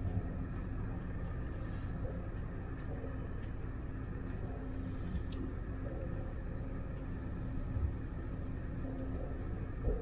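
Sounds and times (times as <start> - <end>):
faint steady hum: 0.0 - 10.0
ship machinery rumble: 0.0 - 10.0.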